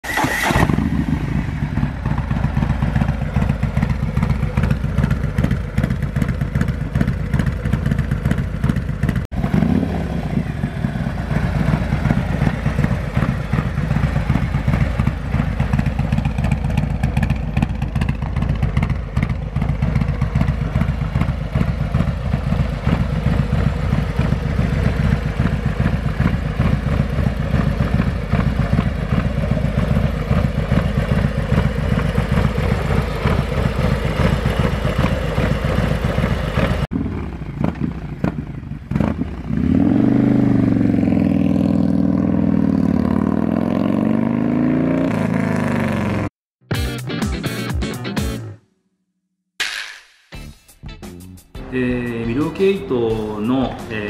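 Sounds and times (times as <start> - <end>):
motorcycle engine revving: 0.0 - 46.4
motorcycle engine running: 0.2 - 46.3.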